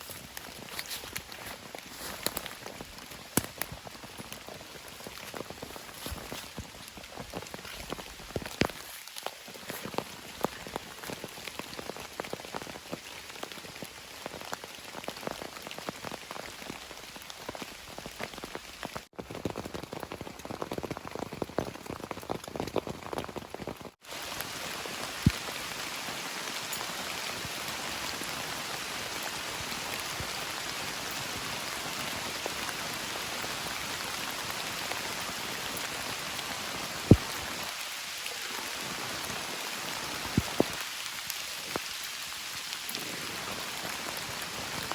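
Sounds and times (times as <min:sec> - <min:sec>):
heavy raindrops striking: 0:00.0 - 0:44.9
steady hiss of rain: 0:00.0 - 0:44.9.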